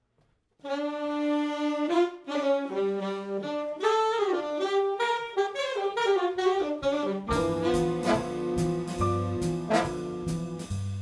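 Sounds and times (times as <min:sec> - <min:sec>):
saxophone section playing: 0:00.6 - 0:10.9.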